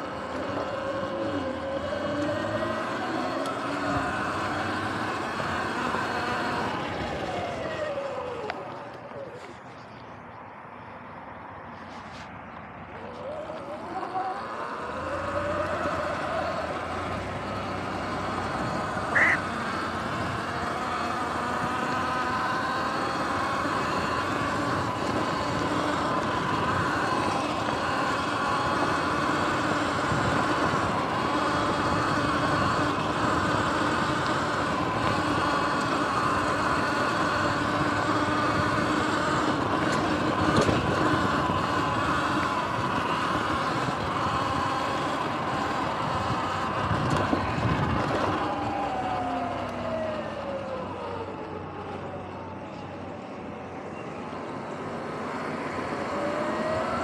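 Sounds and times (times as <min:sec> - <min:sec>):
electric motor whine: 0:00.0 - 0:09.6, 0:12.9 - 0:57.0
tyres on ground: 0:00.0 - 0:57.0.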